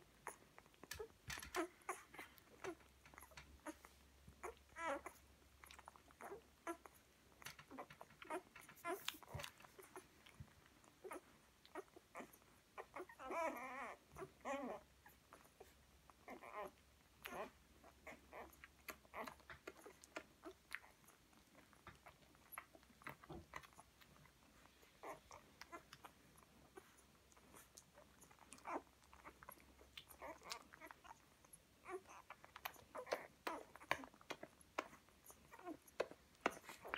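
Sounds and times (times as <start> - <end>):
puppies suckling: 0.0 - 36.9
puppy whimpering: 0.0 - 36.9.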